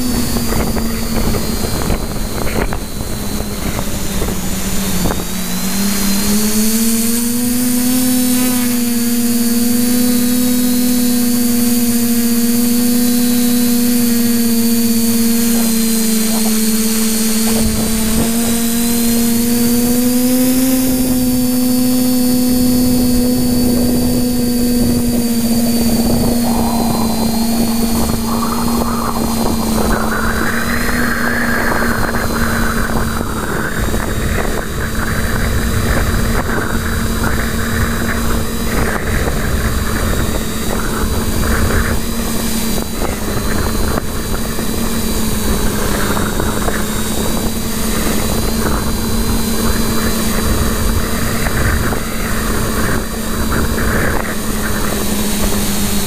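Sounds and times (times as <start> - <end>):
drone propellers humming: 0.0 - 56.0
wind rushing on microphone: 0.0 - 56.0.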